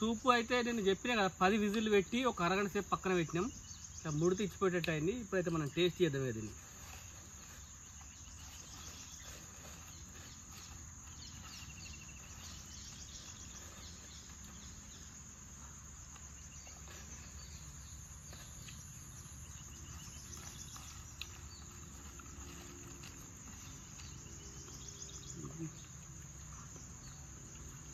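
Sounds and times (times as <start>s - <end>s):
faint chirps: 0.0s - 27.9s
insects droning: 0.0s - 27.9s.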